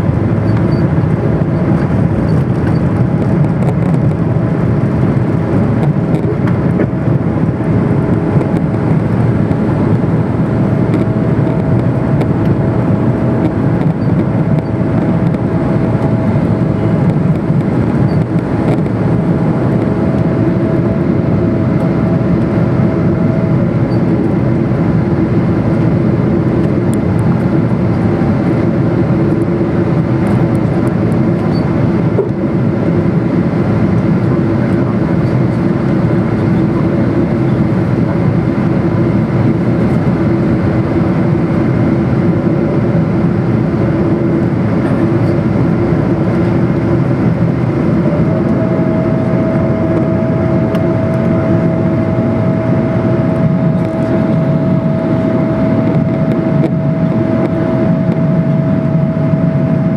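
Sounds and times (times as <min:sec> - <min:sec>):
airplane engine and airflow noise: 0:00.0 - 0:59.9.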